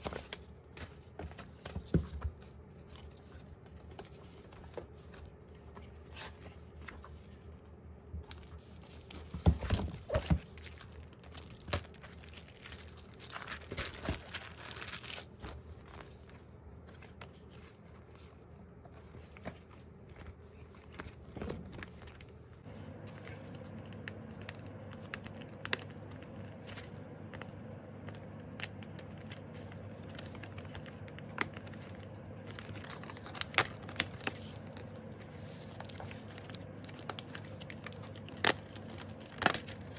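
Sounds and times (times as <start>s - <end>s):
book pages turning: 0.0s - 7.6s, 8.2s - 39.9s
low steady hum: 0.0s - 39.9s.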